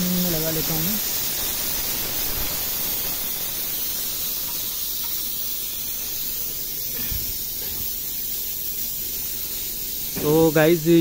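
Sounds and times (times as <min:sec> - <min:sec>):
gas venting hiss: 0:00.0 - 0:11.0.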